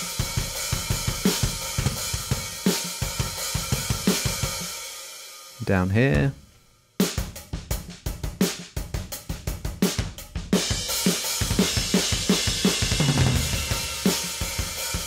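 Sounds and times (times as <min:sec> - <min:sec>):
heavy drum groove: 0:00.0 - 0:15.0.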